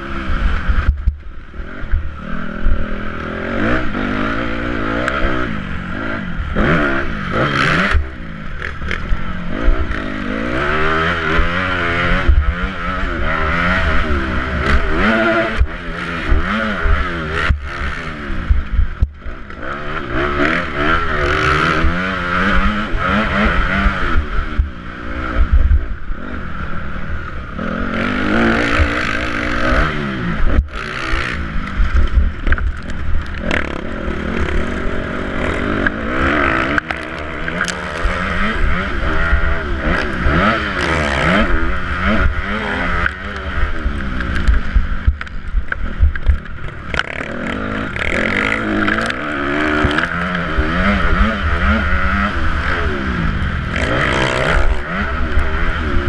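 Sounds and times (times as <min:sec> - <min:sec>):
motocross bike engine revving: 0:00.0 - 0:56.0
wind rumbling on microphone: 0:00.0 - 0:56.0.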